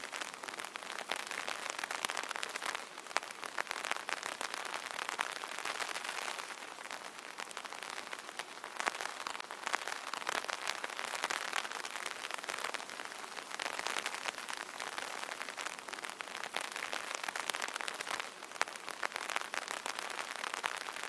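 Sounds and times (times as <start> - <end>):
light rain on an umbrella: 0.0 - 21.0.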